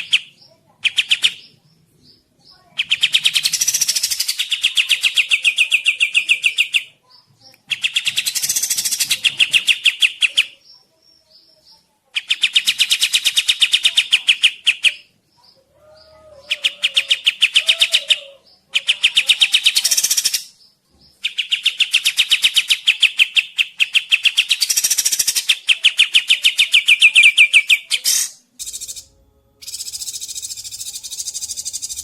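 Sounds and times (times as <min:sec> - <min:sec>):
songbird singing fast trills: 0:00.0 - 0:06.9, 0:07.6 - 0:15.1, 0:16.0 - 0:32.0.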